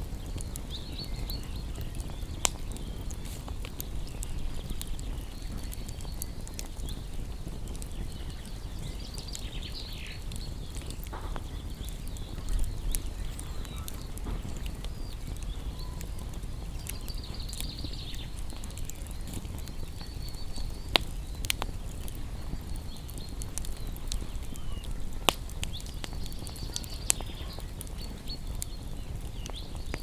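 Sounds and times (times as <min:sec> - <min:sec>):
small birds chirping: 0:00.0 - 0:30.0
wood fire crackling and popping: 0:00.0 - 0:30.0.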